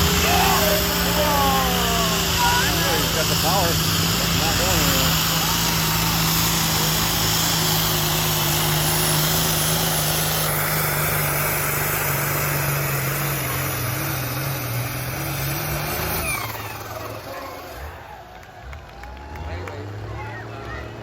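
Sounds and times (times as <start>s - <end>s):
diesel engine at full throttle: 0.0s - 21.0s.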